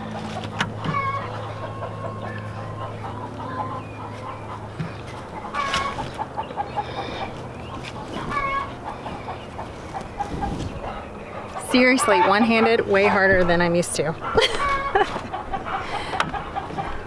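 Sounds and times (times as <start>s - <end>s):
chickens clucking: 0.0s - 17.0s
drawn-out hen calls: 0.0s - 17.0s
low steady hum: 0.0s - 17.0s.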